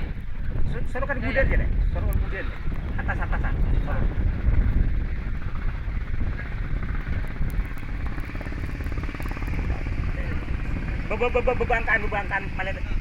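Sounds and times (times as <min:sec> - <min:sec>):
boat engine throbbing: 0:01.7 - 0:13.0.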